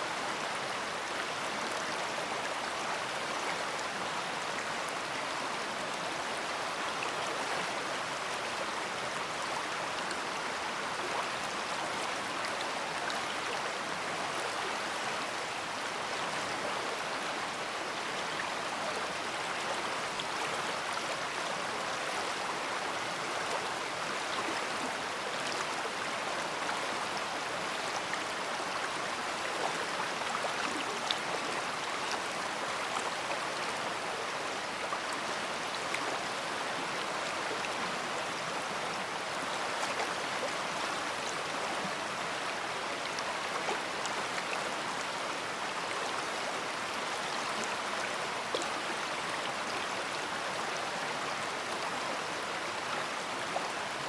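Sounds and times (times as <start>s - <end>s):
river rushing water: 0.0s - 54.0s.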